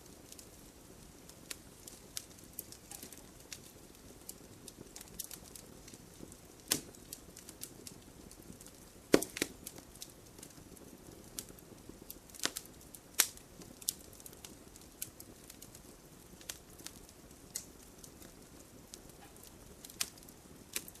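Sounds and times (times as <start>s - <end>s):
campfire crackling and popping: 0.0s - 21.0s
soft hiss of burning: 0.0s - 21.0s.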